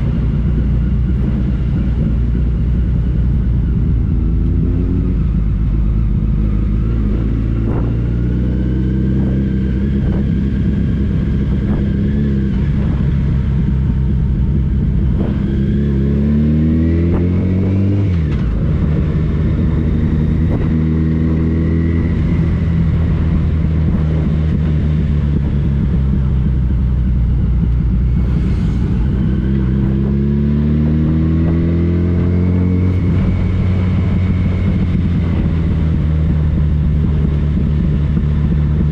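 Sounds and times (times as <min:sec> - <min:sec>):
motorcycle engine accelerating: 0:00.0 - 0:38.9
road and wind rumble: 0:00.0 - 0:38.9.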